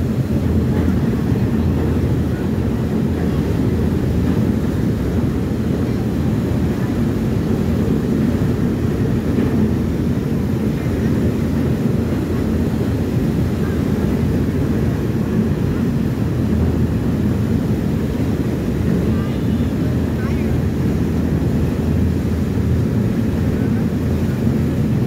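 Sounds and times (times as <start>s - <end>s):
ferry engines low rumble: 0.0s - 25.0s
propellers churning wake: 0.0s - 25.0s.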